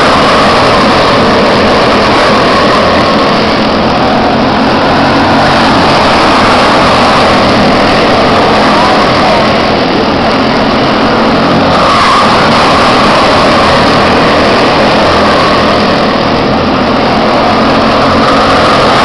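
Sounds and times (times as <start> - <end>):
small race car engines buzzing: 0.0 - 19.0.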